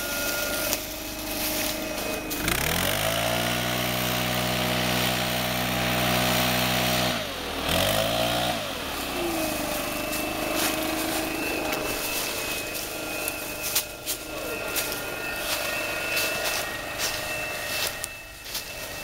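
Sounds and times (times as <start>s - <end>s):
leaf blower engine: 0.0s - 19.0s.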